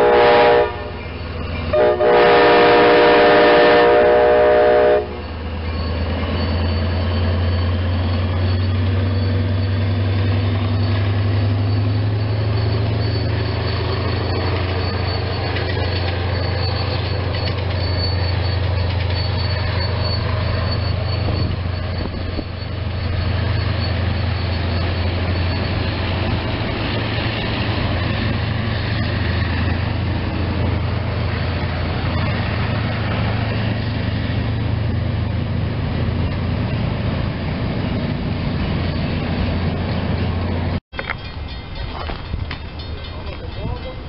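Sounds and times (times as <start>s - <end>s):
high wheel squeal: 0.0s - 44.0s
train cars rumbling: 0.0s - 44.0s.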